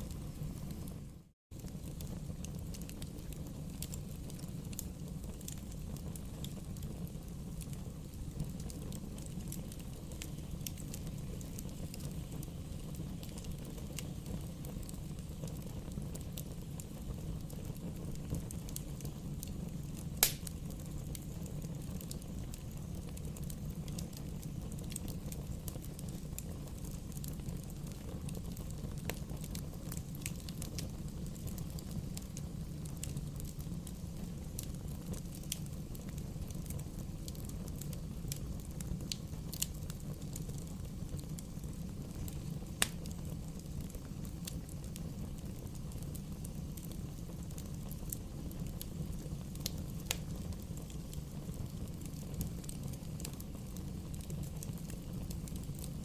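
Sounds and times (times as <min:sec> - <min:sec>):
bonfire crackling: 0:00.0 - 0:56.0
fire popping: 0:00.0 - 0:56.0.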